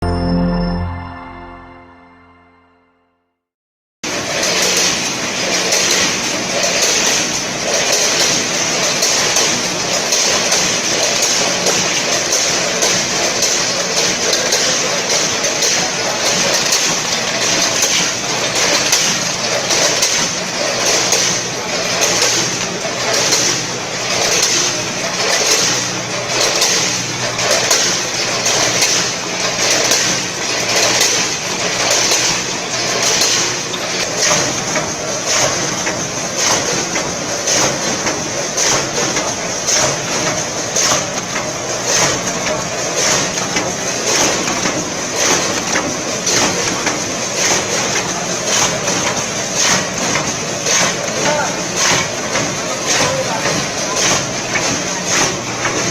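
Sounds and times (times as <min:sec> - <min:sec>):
snacks rattling through chutes: 0:04.1 - 0:55.9.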